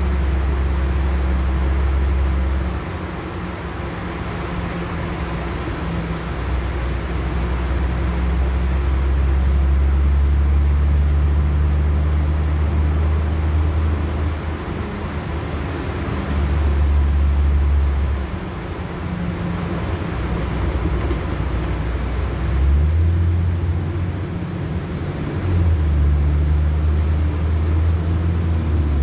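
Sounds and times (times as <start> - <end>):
bus diesel engine drone: 0.0 - 29.0
road noise: 0.0 - 29.0.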